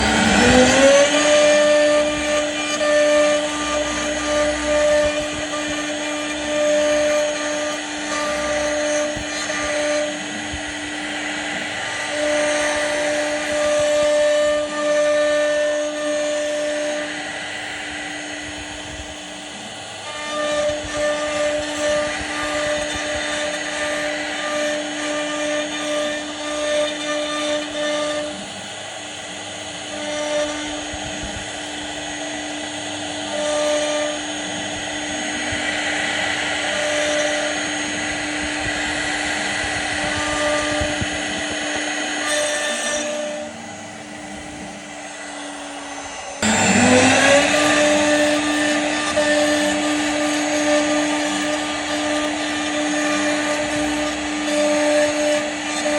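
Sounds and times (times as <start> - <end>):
bit cutting wood: 0.0 - 55.9
router spindle whine: 0.0 - 55.9.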